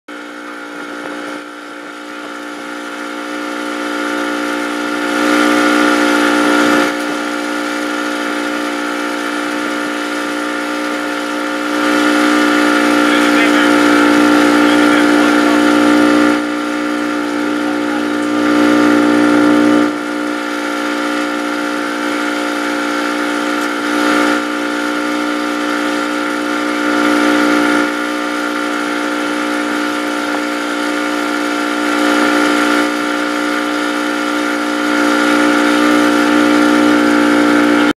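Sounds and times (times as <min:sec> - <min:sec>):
boat motor droning: 0:00.1 - 0:38.0.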